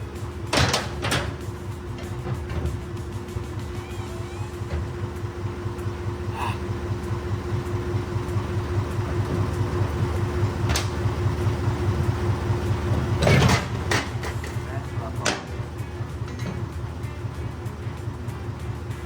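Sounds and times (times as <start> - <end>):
engine running with low throb: 0.0 - 19.0.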